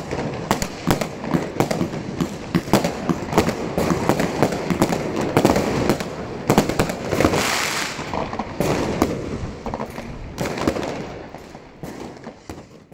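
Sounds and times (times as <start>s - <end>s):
fireworks bangs and pops: 0.0s - 12.9s
fireworks crackling hiss: 0.0s - 12.9s.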